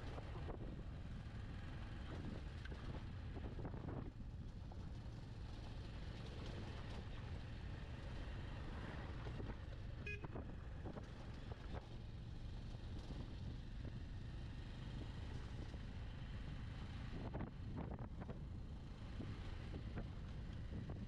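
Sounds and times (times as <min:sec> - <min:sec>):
motorcycle engine drone: 0:00.0 - 0:21.0.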